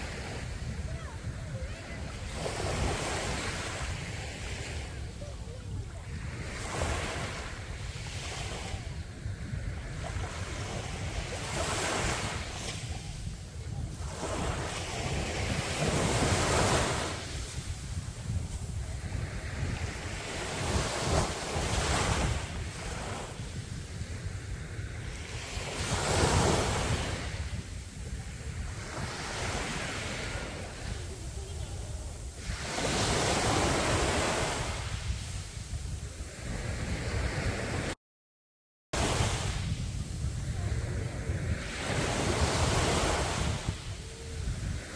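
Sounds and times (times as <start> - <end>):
sea waves breaking on beach: 0.0 - 38.0, 39.0 - 44.9
wind buffeting microphone: 0.0 - 38.0, 39.0 - 44.9.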